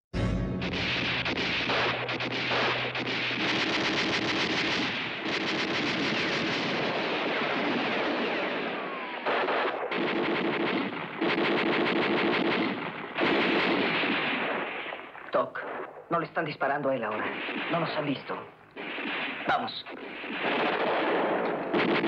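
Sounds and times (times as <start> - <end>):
machine-gun fire: 0.6 - 15.9, 18.8 - 22.0.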